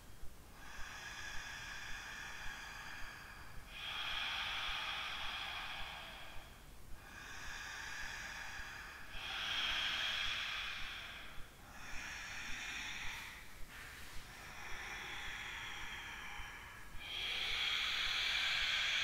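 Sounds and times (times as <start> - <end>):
slow hissing breaths: 0.0 - 19.0.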